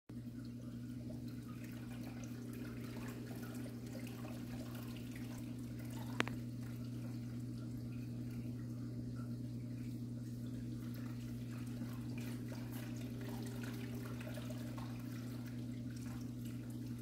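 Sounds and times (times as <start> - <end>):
aquarium equipment humming: 0.1 - 17.0
water trickling and dripping: 0.1 - 17.0.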